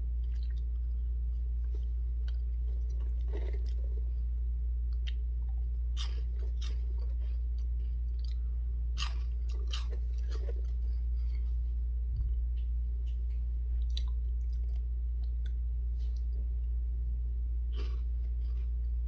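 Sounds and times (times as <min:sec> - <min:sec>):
chewing crunchy snacks: 0:00.0 - 0:11.8, 0:12.6 - 0:16.8, 0:17.6 - 0:19.0
steady low hum: 0:00.0 - 0:19.0.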